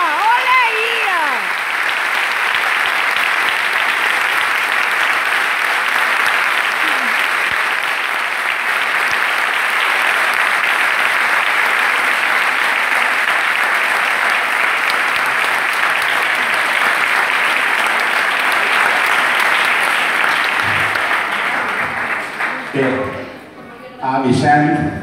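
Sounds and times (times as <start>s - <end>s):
audience applauding: 0.0s - 23.5s.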